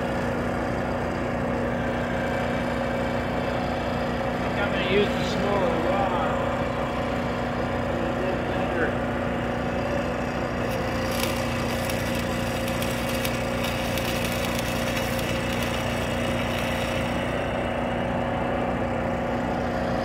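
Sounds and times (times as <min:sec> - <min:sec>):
arc welding crackling: 0:00.0 - 0:19.0
engine idling hum: 0:00.0 - 0:20.0.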